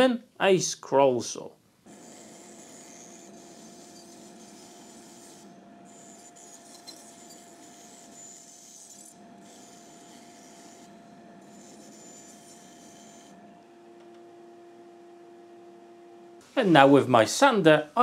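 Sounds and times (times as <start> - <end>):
bandsaw motor hum: 1.9 - 16.5.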